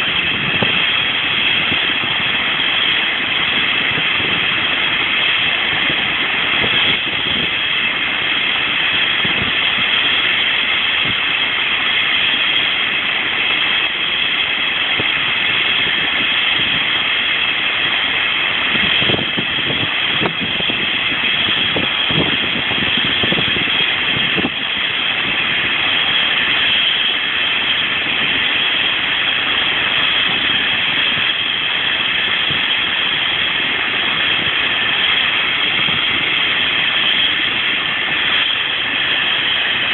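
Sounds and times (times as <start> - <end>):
helicopter rotor rumble: 0.0 - 39.9
helicopter turbine whine: 0.0 - 39.9.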